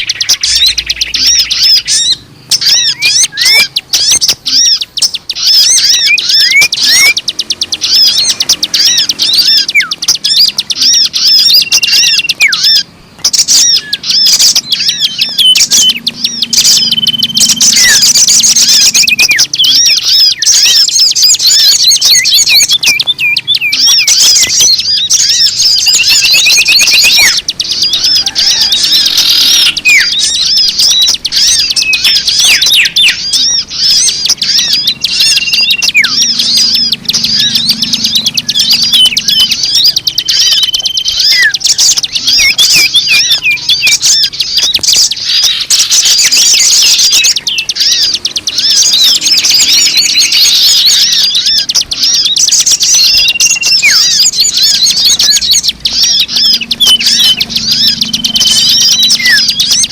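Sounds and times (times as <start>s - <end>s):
bird whistles: 0.0s - 59.9s
small birds chirping and trilling: 0.0s - 59.9s.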